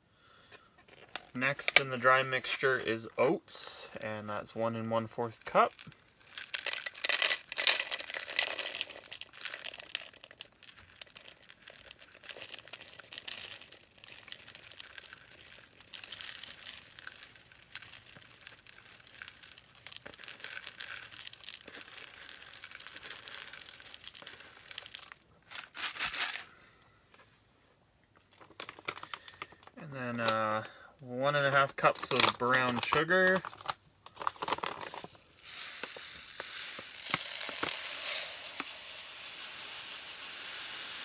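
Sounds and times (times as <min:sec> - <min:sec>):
bag of oats crinkling: 0:00.9 - 0:26.8, 0:28.2 - 0:41.0.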